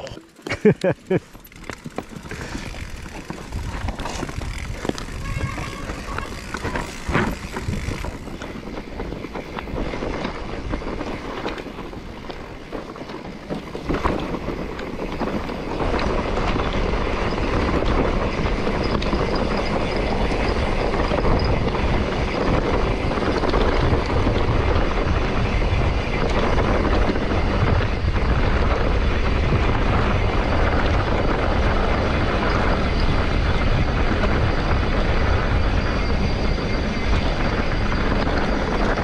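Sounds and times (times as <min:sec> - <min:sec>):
wind on microphone: 0:01.8 - 0:39.0.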